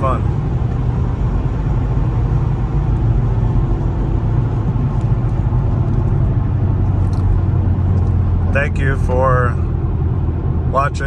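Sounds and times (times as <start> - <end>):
car engine low drone: 0.0 - 11.0
road noise: 0.0 - 11.0.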